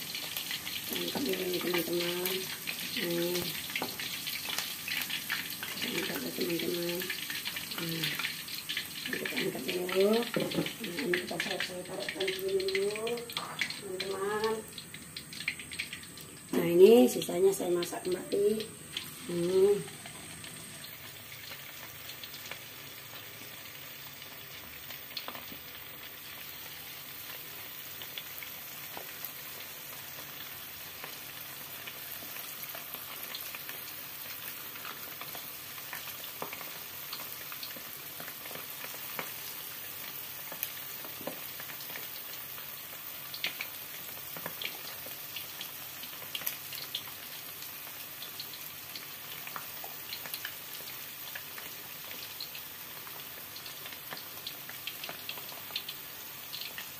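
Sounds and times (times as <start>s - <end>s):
oil sizzling with pops: 0.0s - 56.9s.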